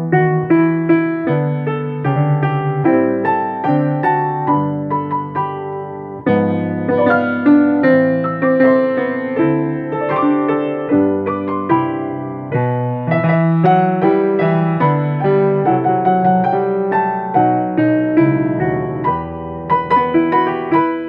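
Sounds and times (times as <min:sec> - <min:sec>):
piano duet: 0:00.0 - 0:21.0.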